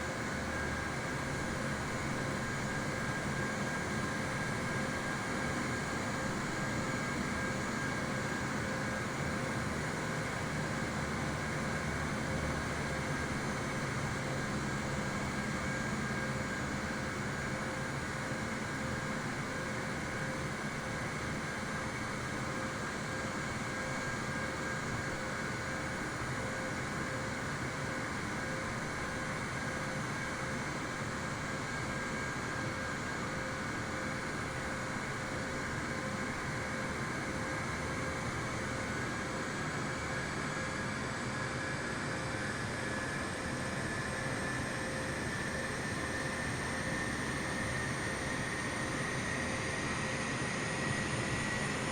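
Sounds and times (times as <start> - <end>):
jet engines running with whine: 0.0 - 51.9.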